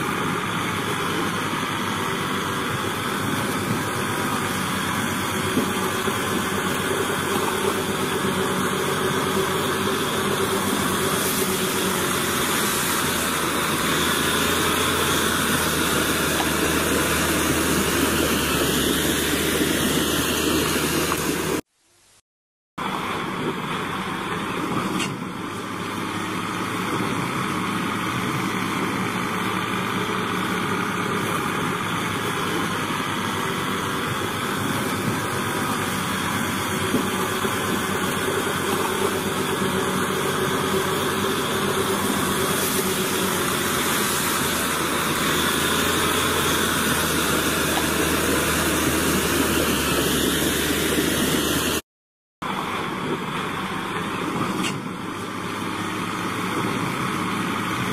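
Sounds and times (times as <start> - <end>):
truck engine running: 0.0 - 21.6, 22.8 - 51.8, 52.4 - 57.9.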